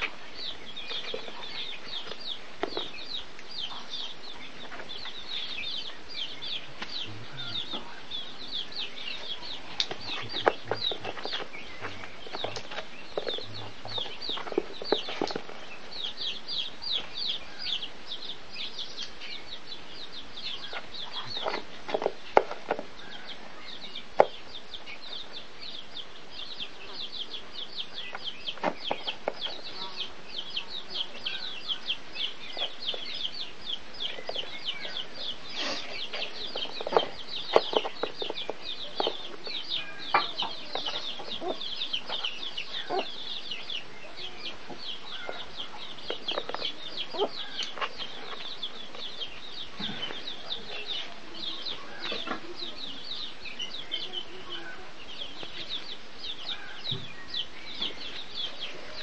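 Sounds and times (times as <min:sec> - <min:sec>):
small bird peeping: 0:00.0 - 0:59.0.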